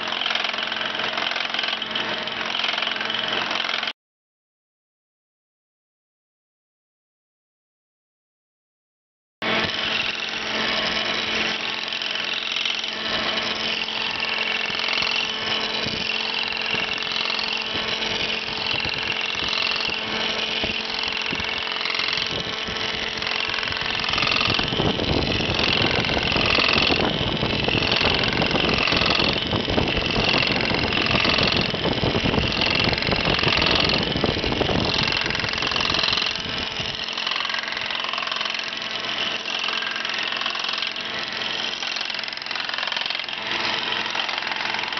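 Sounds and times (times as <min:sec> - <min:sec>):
lathe motor hum: 0:00.0 - 0:03.9, 0:09.4 - 0:44.9
cutter head cutting wood: 0:00.0 - 0:04.0, 0:09.4 - 0:44.9.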